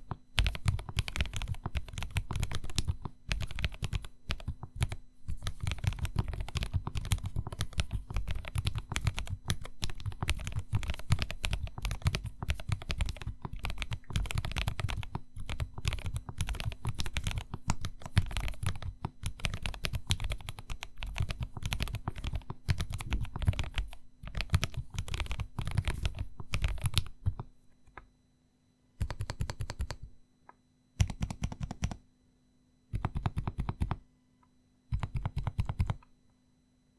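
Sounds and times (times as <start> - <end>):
mechanical keyboard typing: 0.0 - 28.1, 29.0 - 30.1, 31.0 - 32.0, 32.9 - 34.0, 34.9 - 36.1.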